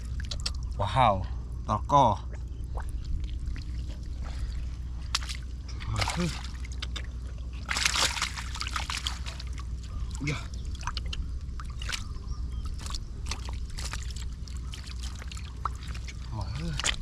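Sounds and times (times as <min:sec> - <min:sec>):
shallow water sloshing and splashing: 0:02.2 - 0:17.0.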